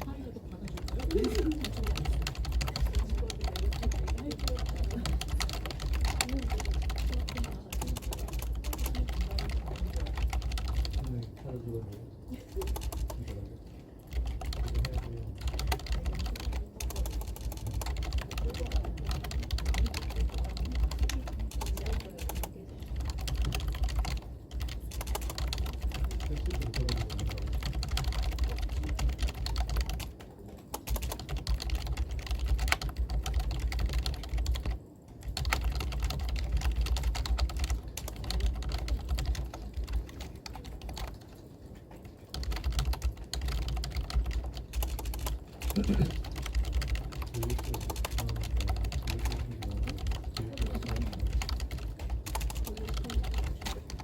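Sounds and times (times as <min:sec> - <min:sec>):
rapid typing on keyboard: 0:00.0 - 0:54.0.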